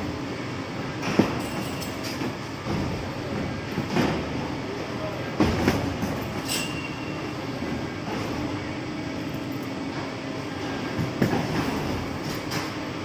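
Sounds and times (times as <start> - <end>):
conveyor belt rumbling: 0.0 - 13.0.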